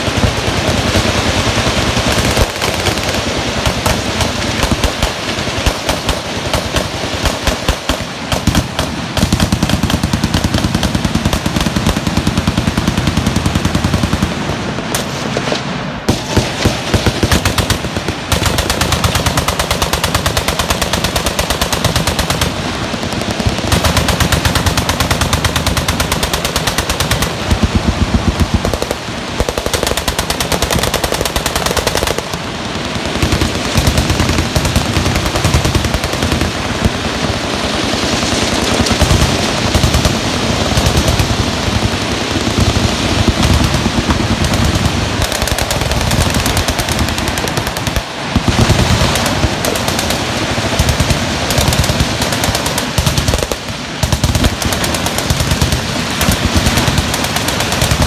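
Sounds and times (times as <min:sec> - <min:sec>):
machine guns firing: 0:00.0 - 0:58.0.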